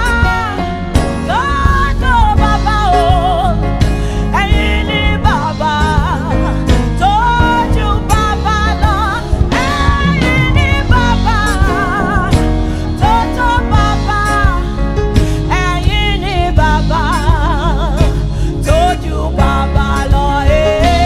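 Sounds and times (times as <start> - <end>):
gospel band playing: 0.0 - 21.0
woman singing with vibrato: 0.0 - 21.0.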